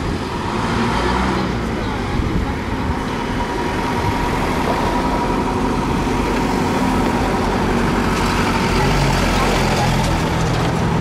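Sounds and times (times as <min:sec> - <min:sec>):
low hum of vehicles: 0:00.0 - 0:11.0.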